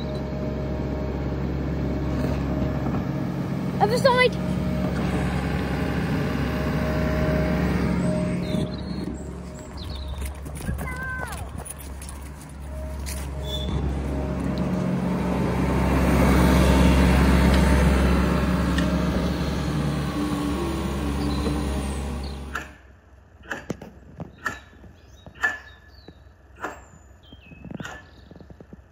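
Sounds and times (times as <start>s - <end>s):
excavator diesel engine: 0.0s - 23.8s.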